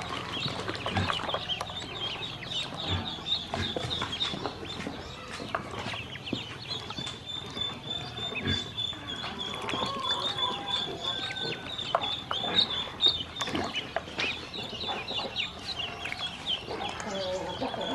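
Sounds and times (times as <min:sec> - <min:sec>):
ducklings peeping: 0:00.0 - 0:17.9.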